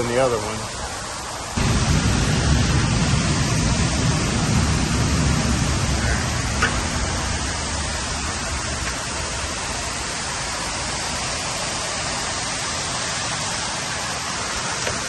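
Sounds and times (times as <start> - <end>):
water falling hiss: 0.0 - 15.0.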